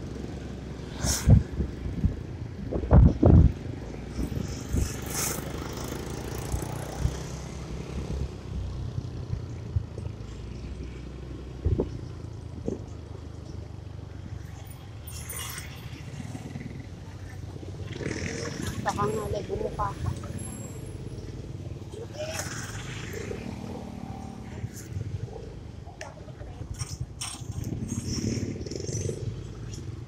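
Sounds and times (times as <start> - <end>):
motorcycle engine and road rumble: 0.0 - 30.0.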